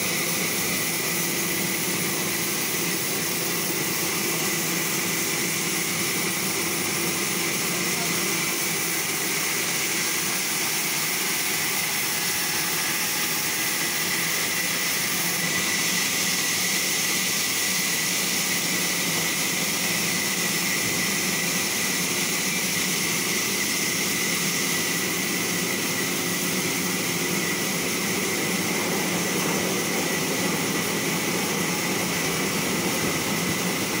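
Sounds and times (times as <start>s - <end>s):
saw machinery running: 0.0s - 34.0s.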